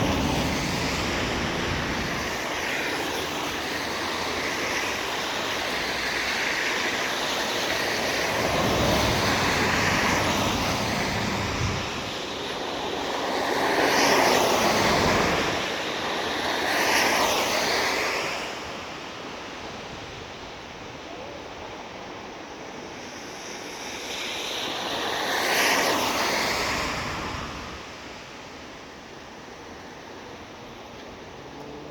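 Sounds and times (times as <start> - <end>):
cars passing on wet road: 0.0 - 19.9, 22.9 - 31.9.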